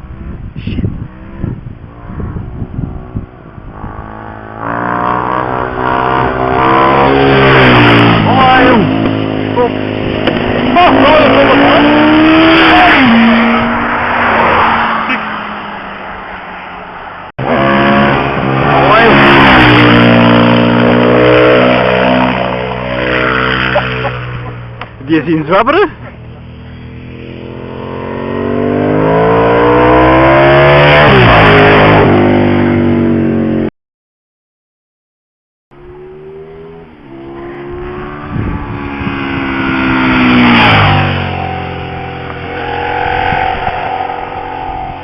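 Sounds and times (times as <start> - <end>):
vehicle engine passing by: 1.0 - 33.0, 35.8 - 45.0.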